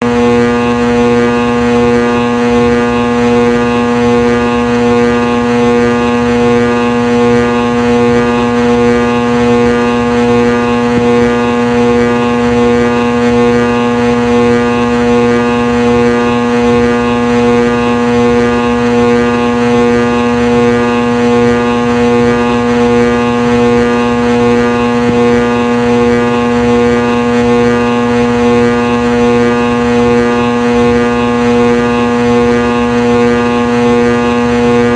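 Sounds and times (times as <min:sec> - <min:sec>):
ceiling fan motor hum: 0:00.0 - 0:34.9.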